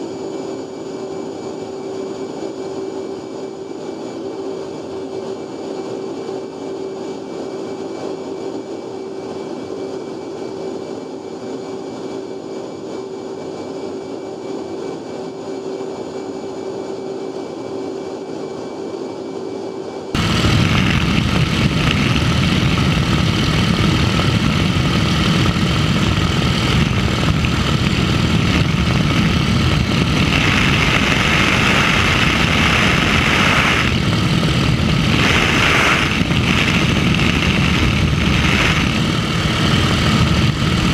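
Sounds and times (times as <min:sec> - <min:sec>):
jet cockpit engine hum: 0:00.0 - 0:40.9
propeller engine: 0:00.0 - 0:40.9
wind rush at open window: 0:00.0 - 0:40.9.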